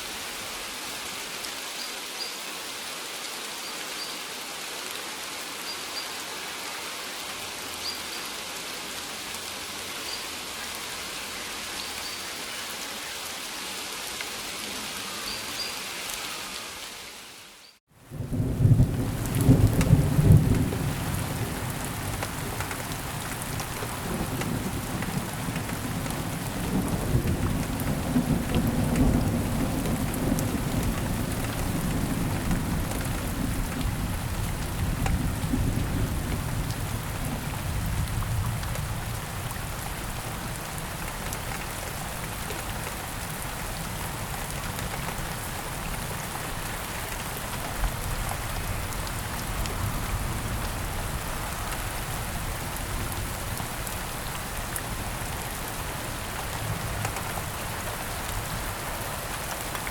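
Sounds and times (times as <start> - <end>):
heavy rainfall: 0.0 - 59.9.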